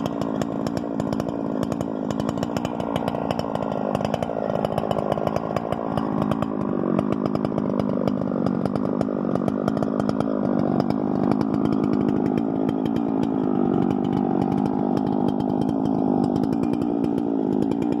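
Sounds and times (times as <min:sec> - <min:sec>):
chainsaw engine running: 0:00.0 - 0:18.0.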